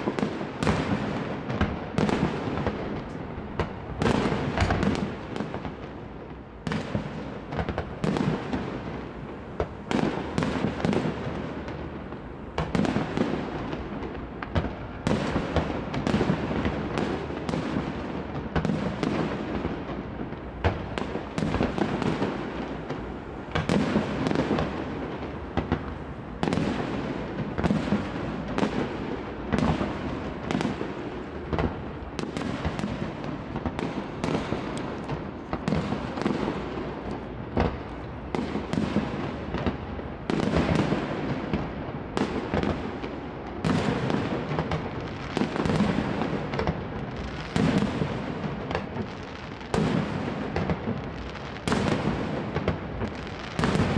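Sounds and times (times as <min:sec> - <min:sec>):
firework bangs: 0:00.0 - 0:53.9.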